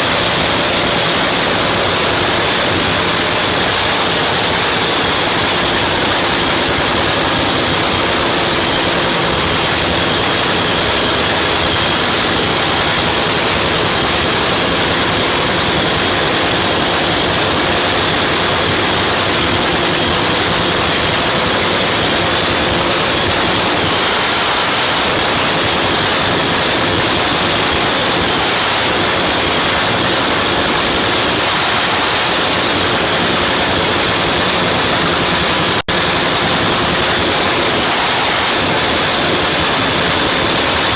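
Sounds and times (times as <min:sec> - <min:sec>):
race car engine running: 0:00.0 - 0:40.9.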